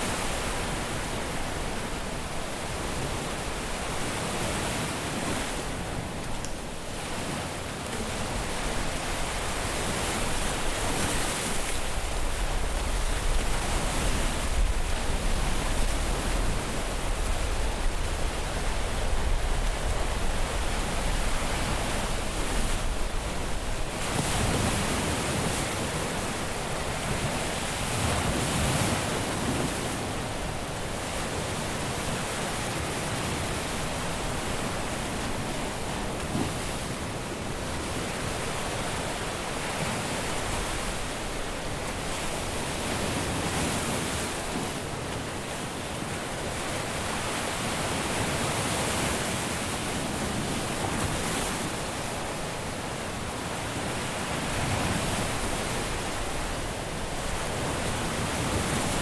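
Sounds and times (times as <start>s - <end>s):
surf breaking on a beach: 0.0s - 59.0s
wind on microphone: 0.0s - 59.0s.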